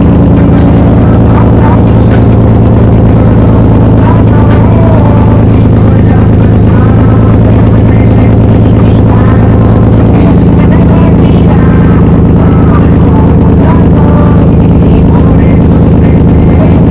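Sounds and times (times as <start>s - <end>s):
car engine droning: 0.0s - 16.9s
faint voice: 0.0s - 16.9s.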